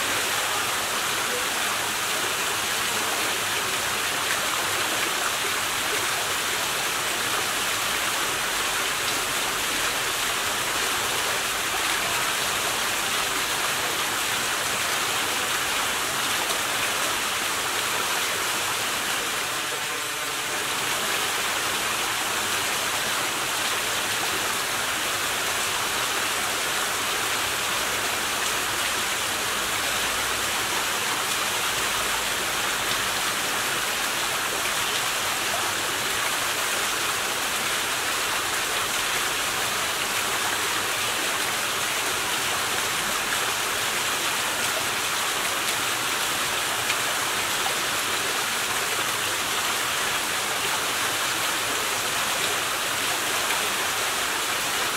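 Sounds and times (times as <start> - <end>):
waterfall spilling over rocks: 0.0 - 54.9.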